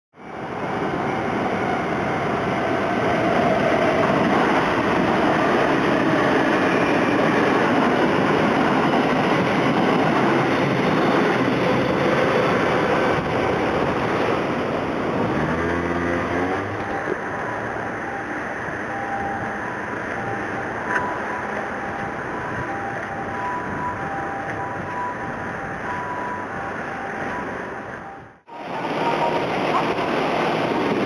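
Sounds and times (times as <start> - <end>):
train wheels rumbling on rail: 0.2 - 31.0.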